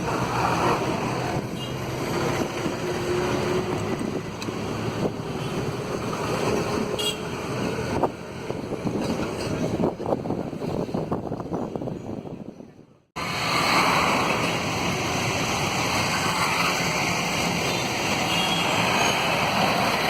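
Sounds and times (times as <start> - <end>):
wind noise on microphone: 0.0 - 18.2.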